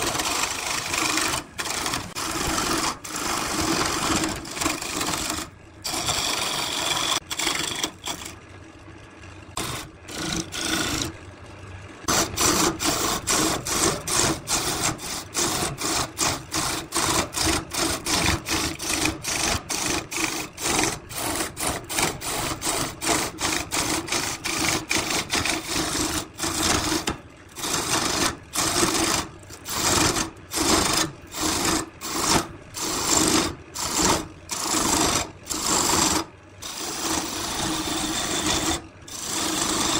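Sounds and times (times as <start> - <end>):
wood lathe humming: 0.0 - 8.3, 9.5 - 11.2, 12.1 - 39.9
turning tool scraping wood: 0.0 - 8.4, 9.5 - 11.2, 12.0 - 39.9.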